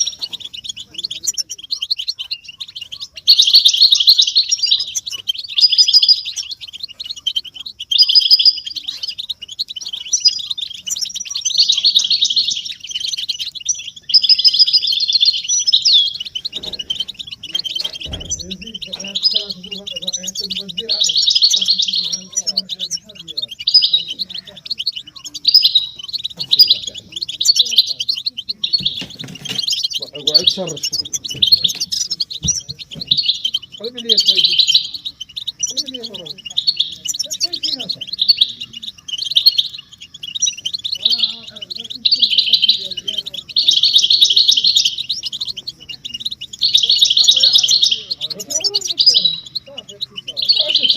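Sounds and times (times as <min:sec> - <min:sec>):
goldfinches twittering: 0:00.0 - 0:50.9.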